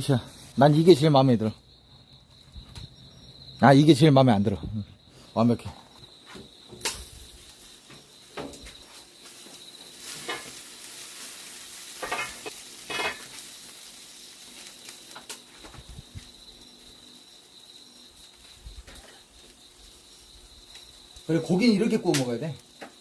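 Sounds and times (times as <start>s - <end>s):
food sizzling: 0.0s - 1.9s, 6.4s - 23.0s.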